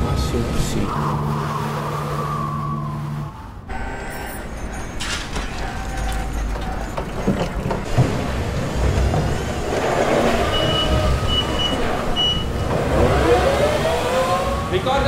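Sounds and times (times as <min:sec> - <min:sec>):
steady mechanical background: 0:00.0 - 0:15.0.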